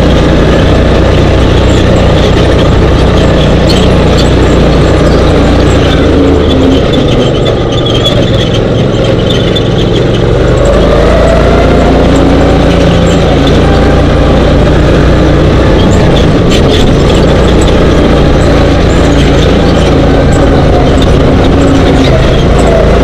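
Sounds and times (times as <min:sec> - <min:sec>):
dune buggy engine running: 0:00.0 - 0:23.0.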